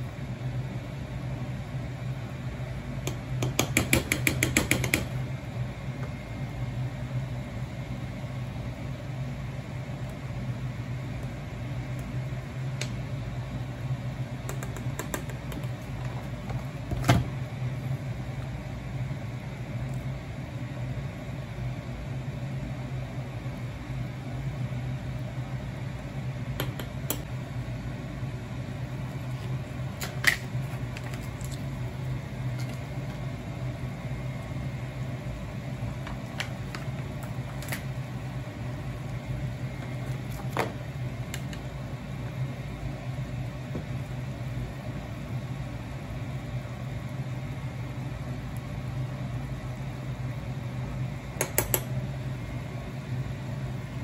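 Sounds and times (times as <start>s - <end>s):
low kitchen hum: 0.0s - 54.0s.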